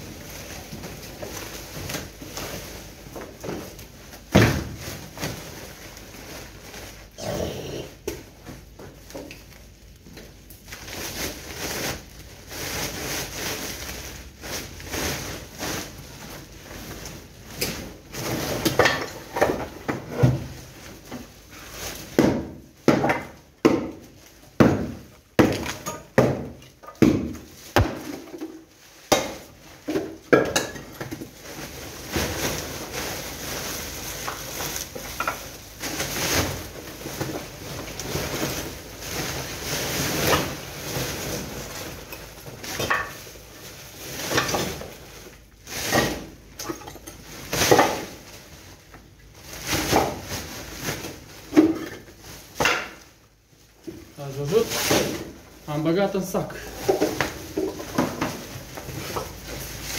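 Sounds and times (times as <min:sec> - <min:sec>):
rubble clattering into plastic sacks: 0:00.0 - 0:59.9
rustling and scraping: 0:00.0 - 0:59.9.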